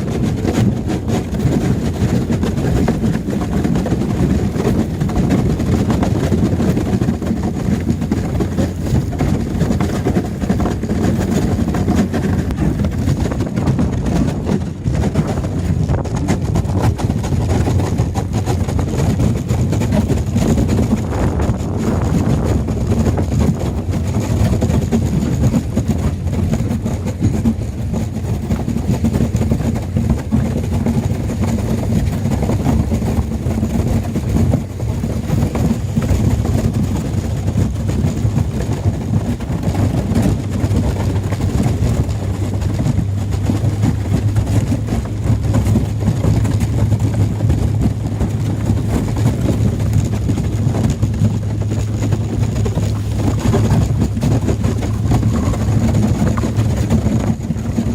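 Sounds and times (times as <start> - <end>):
boat engine humming: 0.0 - 57.9.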